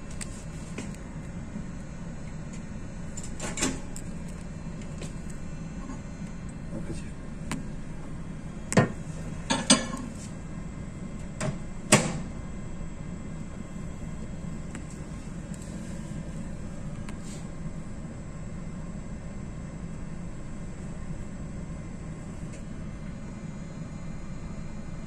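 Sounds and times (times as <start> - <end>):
ship machinery hum: 0.0 - 25.0.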